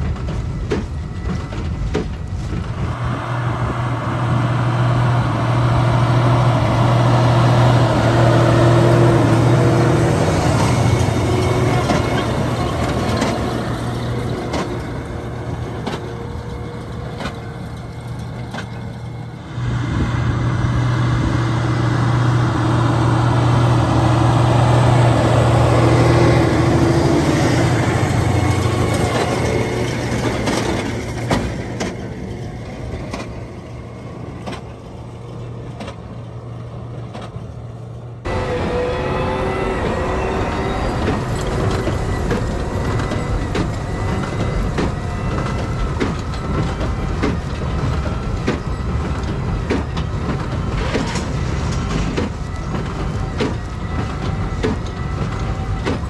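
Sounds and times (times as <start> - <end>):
tractor engine hum: 0.0 - 56.0.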